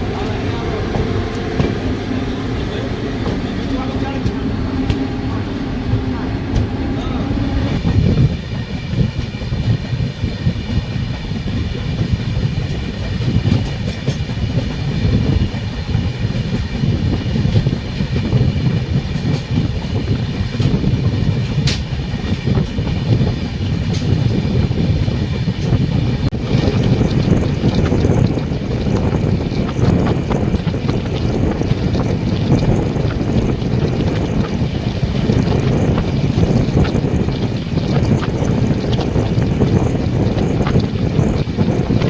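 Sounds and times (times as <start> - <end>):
wheels clattering over rails: 0.0 - 8.2, 8.9 - 42.0
train rumbling: 0.0 - 42.0.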